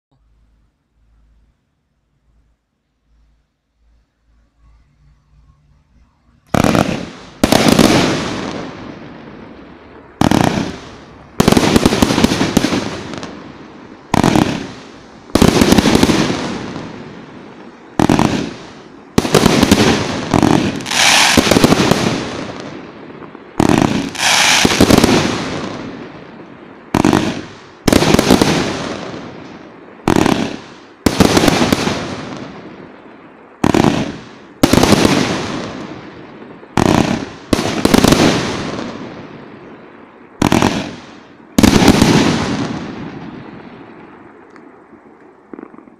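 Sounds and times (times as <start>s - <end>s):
firework volleys with hiss: 2.2s - 45.9s.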